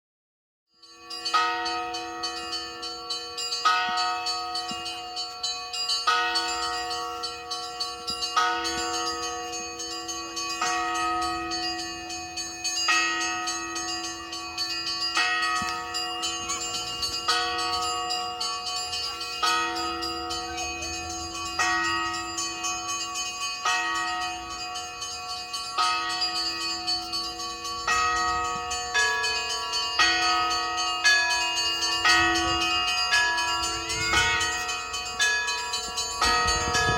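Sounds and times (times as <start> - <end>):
church bells ringing: 0.8 - 36.9.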